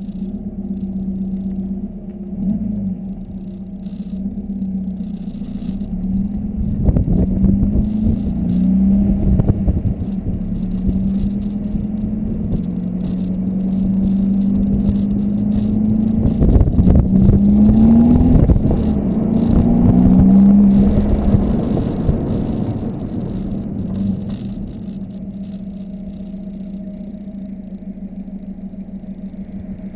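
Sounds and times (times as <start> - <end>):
diesel car exhaust accelerating: 0.0 - 29.9.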